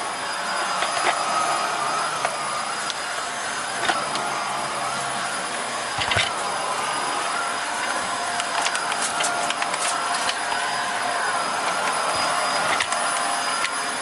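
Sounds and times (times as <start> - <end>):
vacuum cleaner motor running: 0.0 - 14.0.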